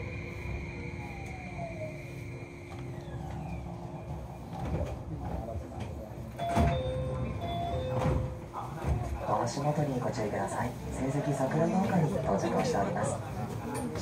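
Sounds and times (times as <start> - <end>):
electric train hum and whine: 0.0 - 14.0.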